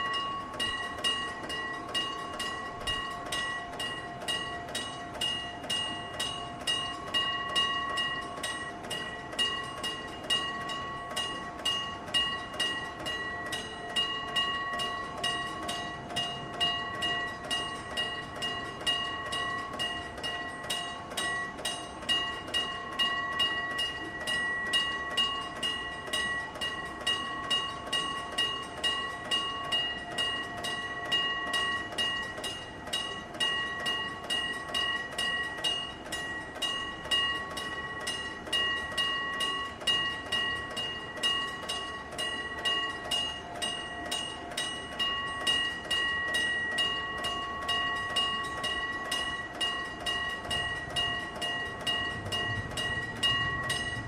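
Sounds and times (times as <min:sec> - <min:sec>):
level crossing bell ringing: 0:00.0 - 0:54.0.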